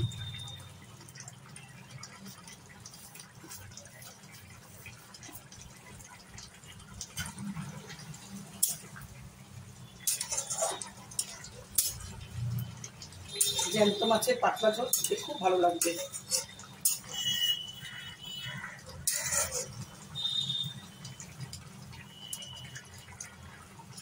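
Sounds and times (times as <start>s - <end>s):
curry bubbling: 0.0s - 24.0s.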